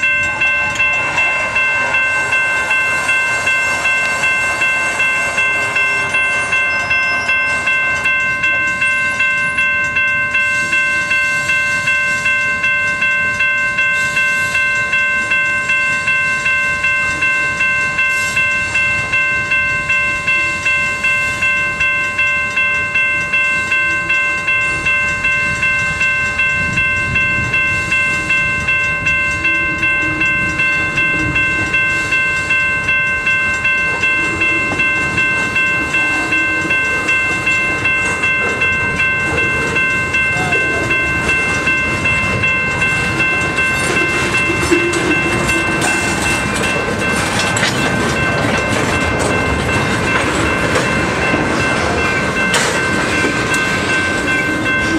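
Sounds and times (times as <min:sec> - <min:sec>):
railroad crossing bell ringing: 0:00.0 - 0:54.9
train wheels rumbling on rails: 0:00.0 - 0:54.9.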